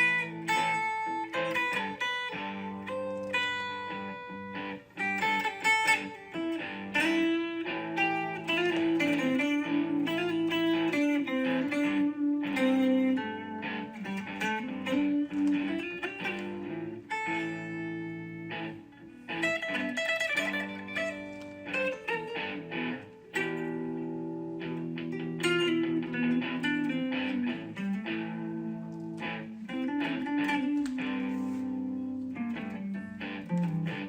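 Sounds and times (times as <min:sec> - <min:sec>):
plucked guitar melody: 0:00.0 - 0:34.0.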